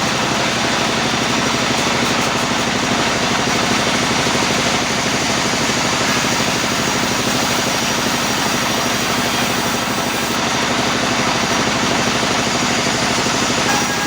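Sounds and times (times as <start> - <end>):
sawmill machinery droning: 0.0 - 14.0.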